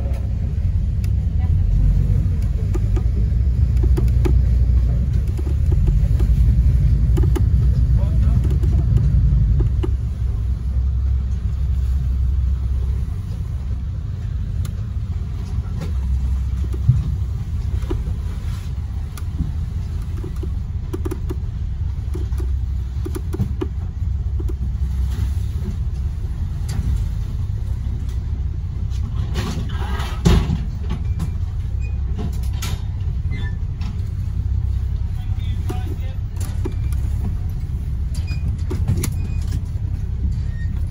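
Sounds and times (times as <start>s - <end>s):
boat engine rumble: 0.0s - 40.9s
wind: 0.0s - 40.9s.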